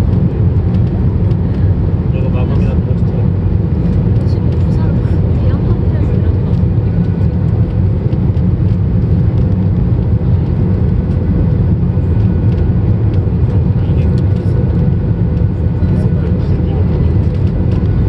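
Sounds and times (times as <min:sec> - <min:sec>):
jet engine cabin roar: 0:00.0 - 0:18.0.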